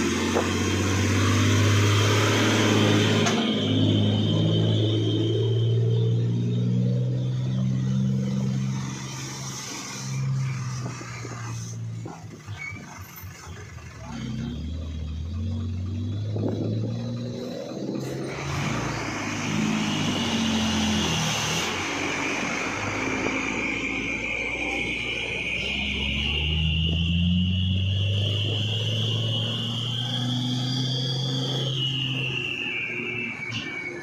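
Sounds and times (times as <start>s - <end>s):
truck diesel engine at low revs: 0.0s - 34.0s.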